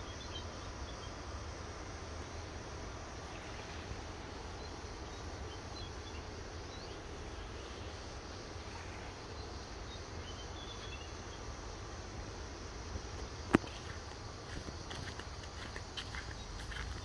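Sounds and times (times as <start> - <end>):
low rumble and hiss of surf: 0.0 - 17.0.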